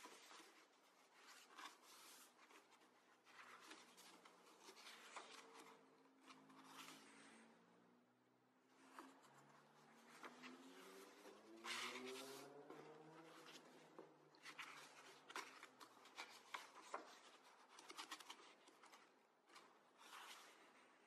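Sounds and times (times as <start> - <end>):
paper pages rustling: 0.0 - 7.5, 8.8 - 21.0.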